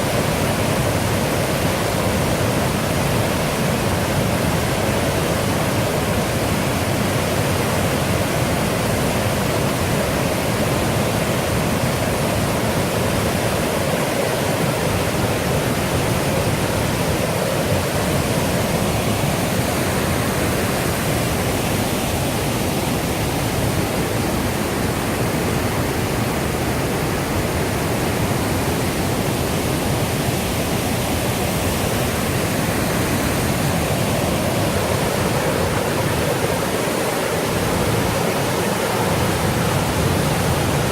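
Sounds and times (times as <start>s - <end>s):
rushing river water: 0.0s - 40.9s.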